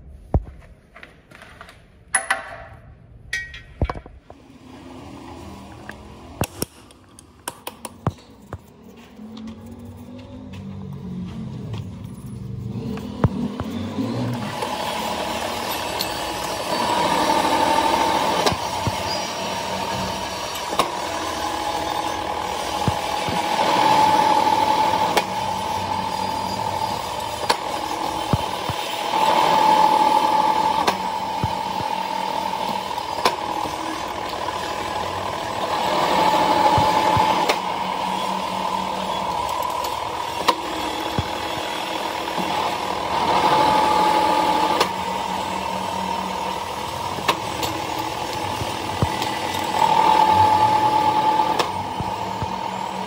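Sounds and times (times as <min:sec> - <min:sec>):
factory machinery whirring: 0:03.3 - 0:53.0.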